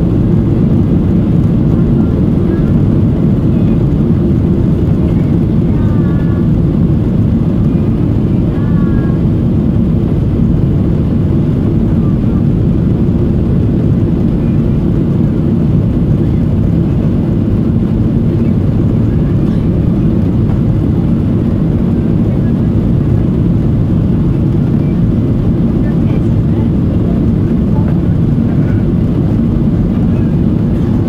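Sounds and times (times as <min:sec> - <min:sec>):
jet engines droning: 0:00.0 - 0:31.0
rushing airflow: 0:00.0 - 0:31.0.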